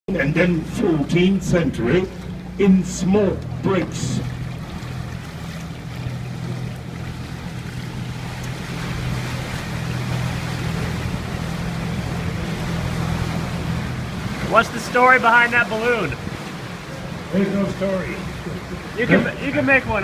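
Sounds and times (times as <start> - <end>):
boat motor humming: 0.0 - 20.0
water and air rushing: 0.1 - 20.0.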